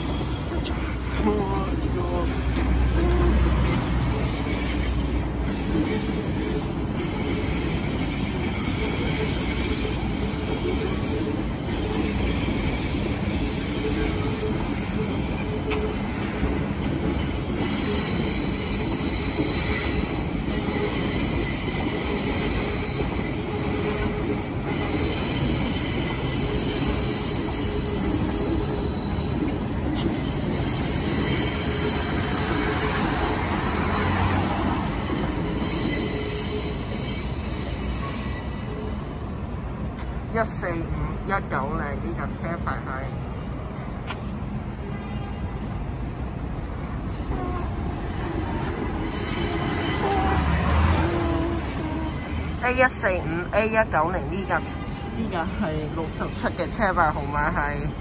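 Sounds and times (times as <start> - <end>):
train wheels squealing: 0.0 - 1.1, 2.2 - 40.3, 46.7 - 58.0
train rumble: 0.0 - 58.0.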